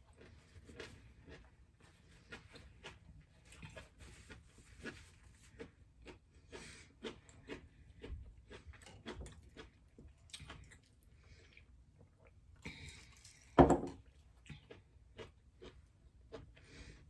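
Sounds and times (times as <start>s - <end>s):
chewing with wet mouth clicks: 2.2s - 13.4s, 14.0s - 16.7s.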